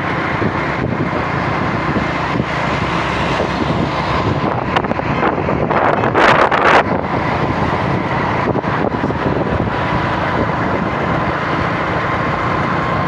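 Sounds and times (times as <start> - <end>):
vehicle road and engine noise: 0.0 - 13.0
wind buffeting microphone: 0.0 - 13.0.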